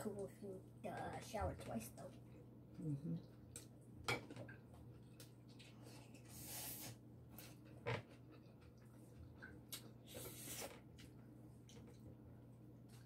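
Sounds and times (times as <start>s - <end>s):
people chewing food: 2.1s - 13.0s.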